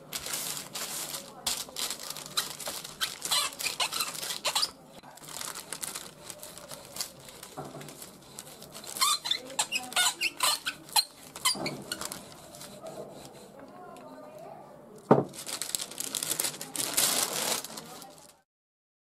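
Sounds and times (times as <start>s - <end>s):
paper crinkling and squeaking: 0.0s - 13.3s, 15.2s - 18.4s
rolling pin on baking paper: 0.0s - 14.0s, 15.2s - 18.4s.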